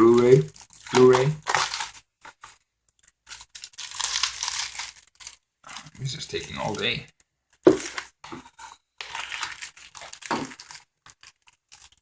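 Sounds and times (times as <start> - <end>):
plastic wrapping crinkling and tearing: 0.0 - 8.3, 9.0 - 12.0.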